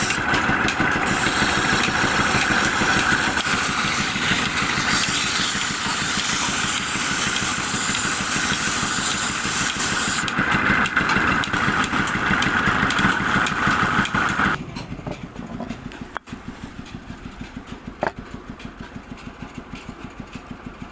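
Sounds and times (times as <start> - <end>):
engine running: 0.0 - 20.9.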